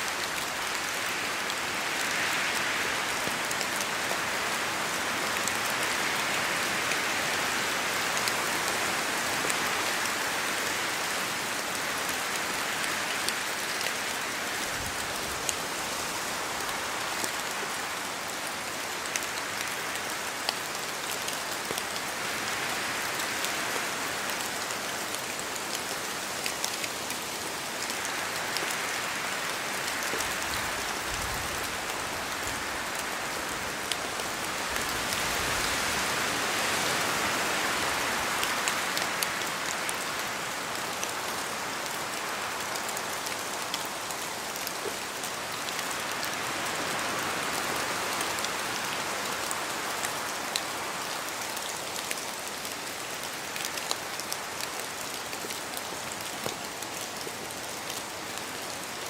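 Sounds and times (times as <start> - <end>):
steady rain falling: 0.0 - 59.0
wind through branches: 0.0 - 59.0.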